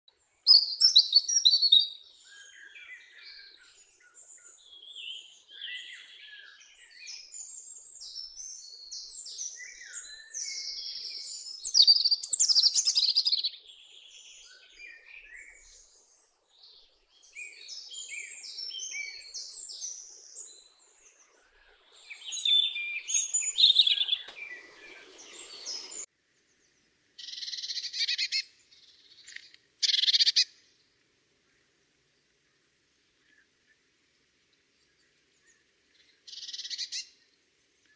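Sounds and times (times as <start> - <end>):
songbirds chirping: 0.1 - 37.9.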